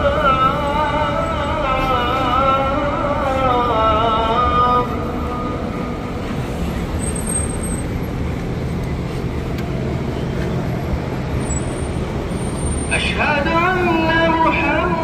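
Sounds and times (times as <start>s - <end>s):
cars moving slowly past: 0.0s - 15.0s
low engine hum: 0.0s - 15.0s.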